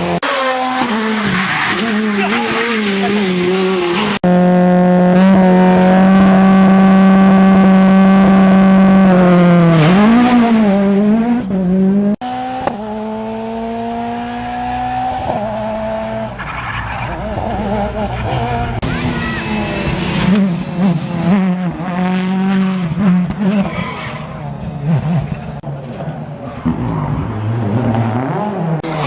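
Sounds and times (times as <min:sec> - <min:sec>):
car engine accelerating: 0:00.0 - 0:29.0
rally car engines revving: 0:00.0 - 0:29.0.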